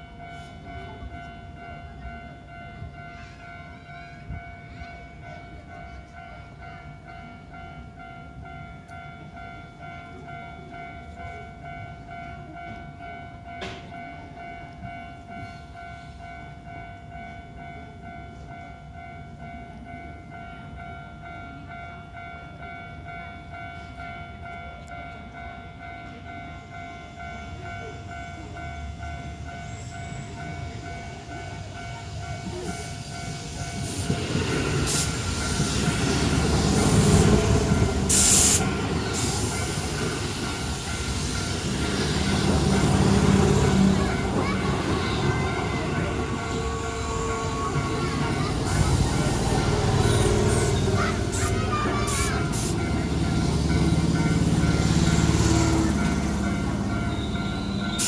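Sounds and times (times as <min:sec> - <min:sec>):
electric train passing: 0:00.0 - 0:58.0
level crossing warning bell: 0:00.0 - 0:58.0.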